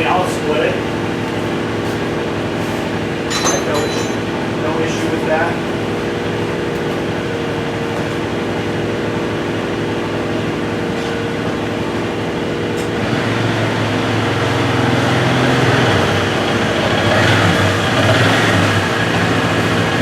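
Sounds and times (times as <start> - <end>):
deep loud hum: 0.0 - 20.0
engine running steadily: 0.0 - 20.0.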